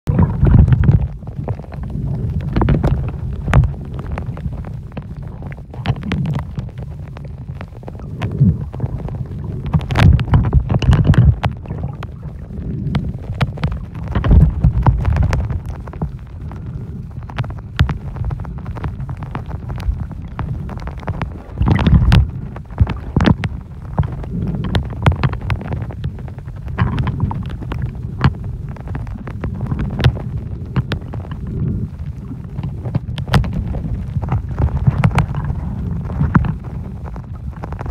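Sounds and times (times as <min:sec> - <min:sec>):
muffled underwater rumble: 0:00.0 - 0:37.9
clicks and crackles: 0:00.1 - 0:37.9.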